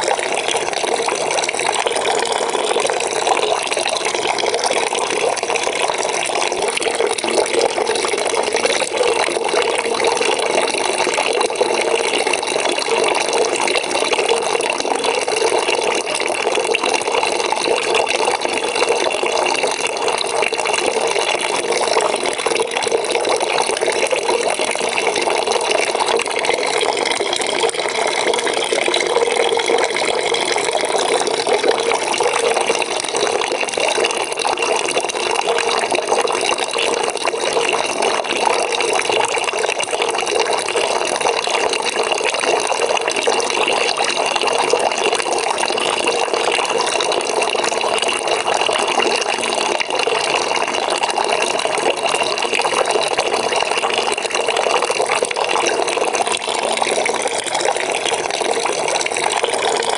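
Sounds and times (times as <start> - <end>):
water running into a bucket: 0.0 - 59.9.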